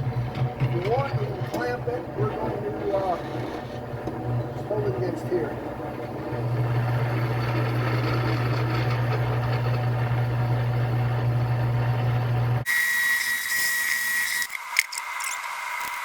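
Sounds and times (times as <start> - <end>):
drill press motor hum: 0.0 - 16.0.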